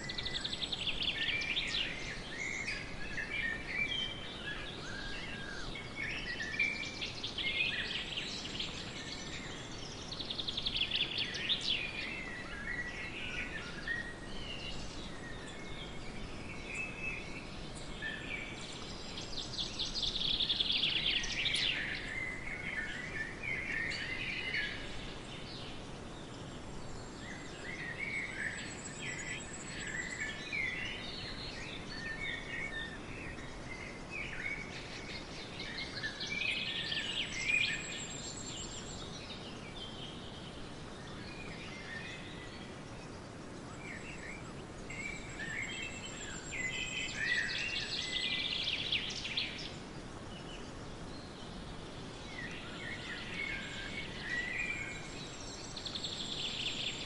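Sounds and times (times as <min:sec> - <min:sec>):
outdoor background hiss: 0:00.0 - 0:57.0
songbirds chirping and trilling: 0:00.0 - 0:57.0.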